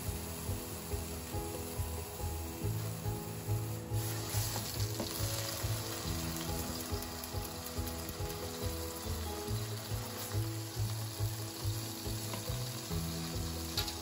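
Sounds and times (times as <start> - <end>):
meat sizzling in frying pan: 0.0 - 14.0.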